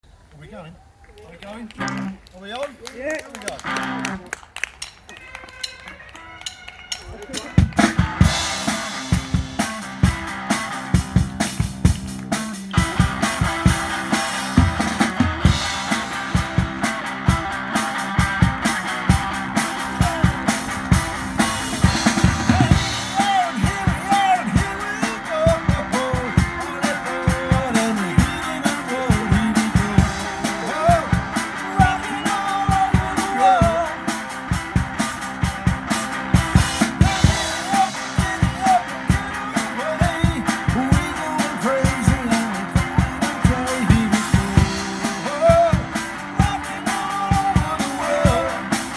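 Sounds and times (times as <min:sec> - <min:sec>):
rock music with drum beat: 0:05.5 - 0:48.9.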